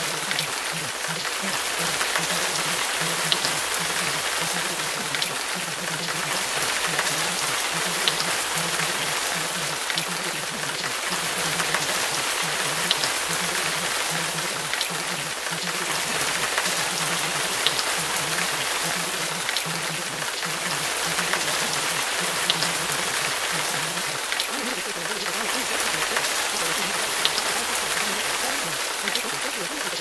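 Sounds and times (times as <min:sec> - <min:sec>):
low voice murmur: 0:00.0 - 0:30.0
steady rain: 0:00.0 - 0:30.0.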